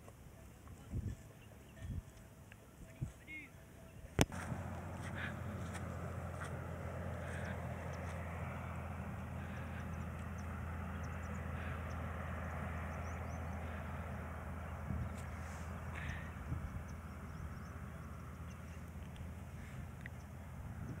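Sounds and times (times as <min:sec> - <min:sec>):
low engine hum: 0:04.1 - 0:21.0.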